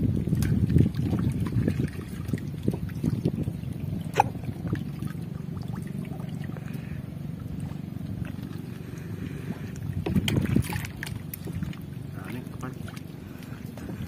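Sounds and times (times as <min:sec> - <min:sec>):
steady low rumble: 0:00.0 - 0:14.0
water sloshing and splashing: 0:00.0 - 0:14.0.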